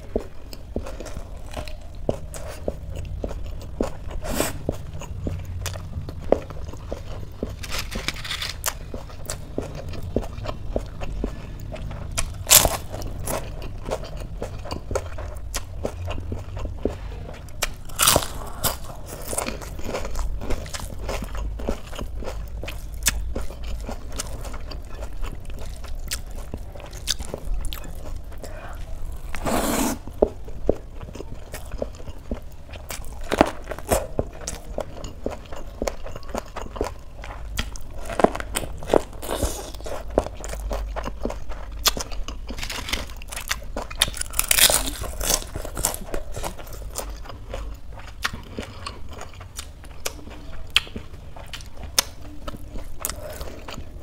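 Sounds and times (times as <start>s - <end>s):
chewing crunchy fried snack: 0.0s - 29.4s, 30.0s - 54.0s.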